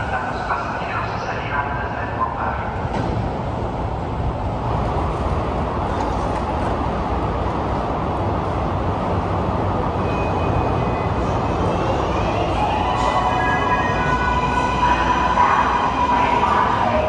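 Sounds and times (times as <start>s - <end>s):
rail car equipment rumbling: 0.0s - 17.0s.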